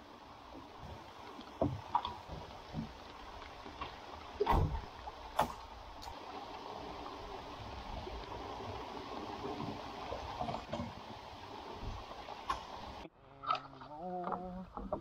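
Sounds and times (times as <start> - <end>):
rain falling on water and deck: 0.0 - 13.1.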